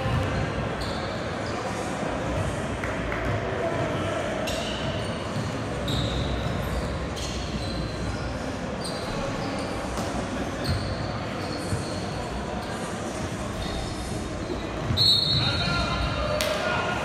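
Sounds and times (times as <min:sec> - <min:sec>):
sneakers squeaking on floor: 0:00.0 - 0:01.9, 0:04.4 - 0:16.2.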